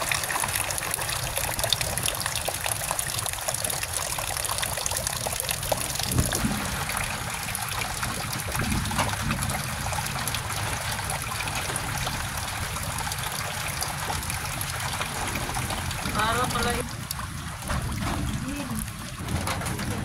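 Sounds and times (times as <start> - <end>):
heavy rain splashing into water: 0.0 - 20.0
runoff pouring into water: 0.0 - 20.0.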